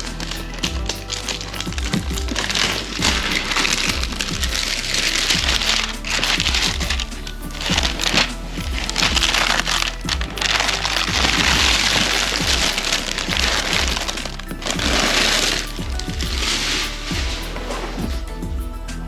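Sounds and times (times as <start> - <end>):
packaging crackling and crinkling: 0.0 - 18.4
background music with steady beat: 0.0 - 19.0.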